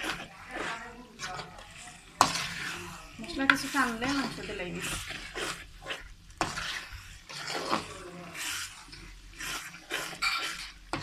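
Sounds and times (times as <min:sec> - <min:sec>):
metal spoon scraping a pan: 0:00.0 - 0:11.0
paste sizzling in a pan: 0:00.0 - 0:11.0.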